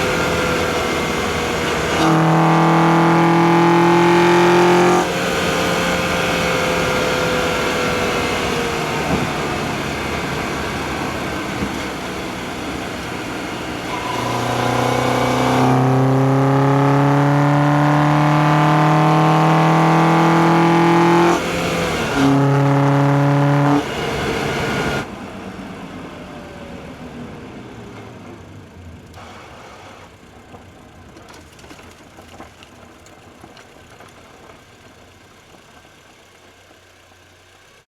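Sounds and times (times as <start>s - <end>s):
car engine accelerating: 0.0s - 37.8s.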